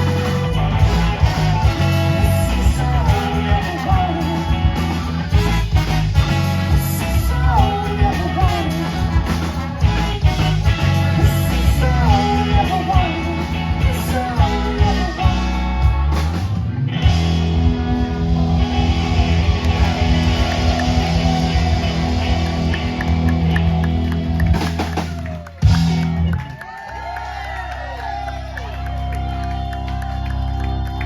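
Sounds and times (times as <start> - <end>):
lead guitar line bending: 0.0 - 26.3
bass: 0.0 - 31.0
drums: 0.0 - 31.0.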